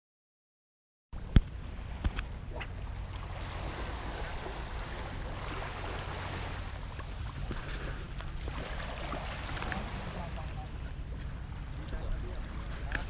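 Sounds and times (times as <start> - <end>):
wind rumbling on microphone: 1.2 - 13.0
small waves washing on sand: 1.6 - 13.0.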